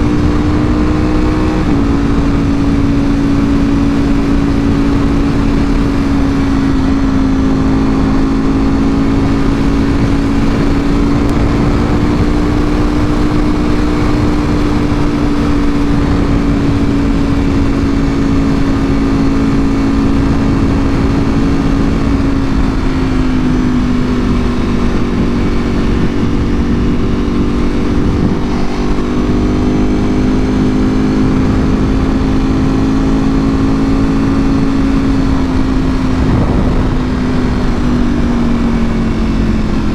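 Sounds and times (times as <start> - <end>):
motorcycle engine cruising: 0.0 - 39.9
steady rushing noise: 0.0 - 39.9.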